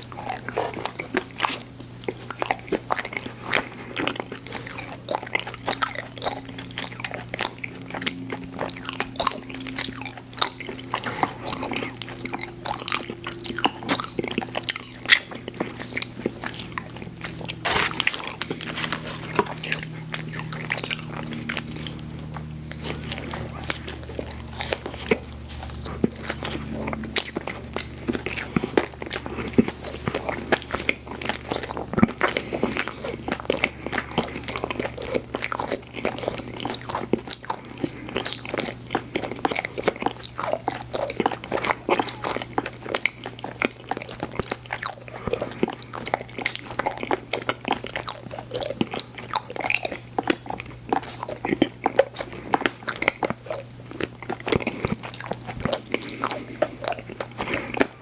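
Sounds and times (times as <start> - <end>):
person chewing crunchy candy: 0.0 - 58.0.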